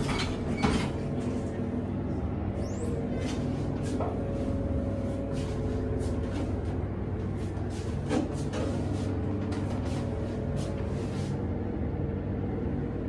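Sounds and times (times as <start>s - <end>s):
elevator hum: 0.0s - 13.0s.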